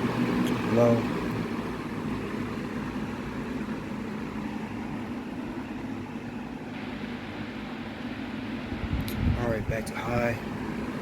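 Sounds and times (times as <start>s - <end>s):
box fan whirring: 0.0s - 11.0s.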